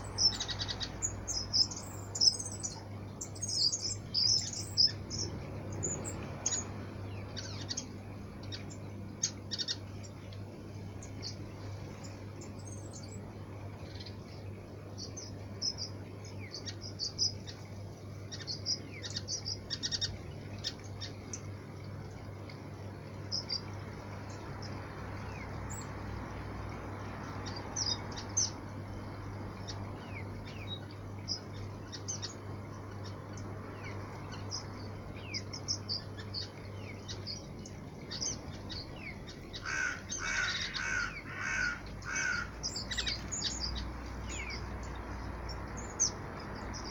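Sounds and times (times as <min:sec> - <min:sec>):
small birds chirping: 0:00.0 - 0:46.9
steady low hum: 0:00.0 - 0:46.9.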